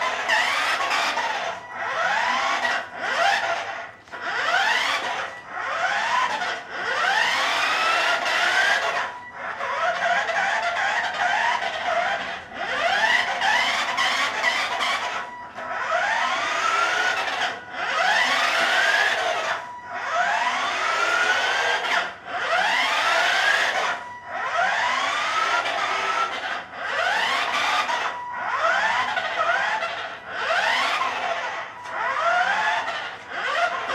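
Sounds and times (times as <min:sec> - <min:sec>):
toy car electric motor whine: 0:00.0 - 0:33.9.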